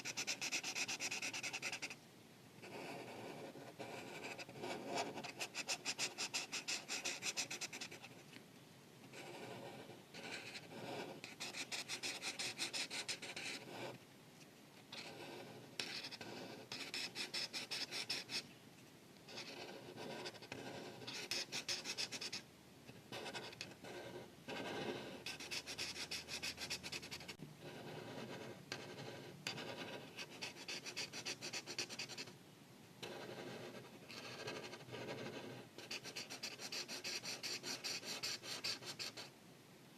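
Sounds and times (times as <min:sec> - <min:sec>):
marker scratching on paper: 0:00.0 - 0:02.0, 0:02.6 - 0:08.2, 0:09.1 - 0:14.0, 0:15.0 - 0:18.4, 0:19.3 - 0:22.4, 0:23.1 - 0:32.3, 0:33.0 - 0:39.3.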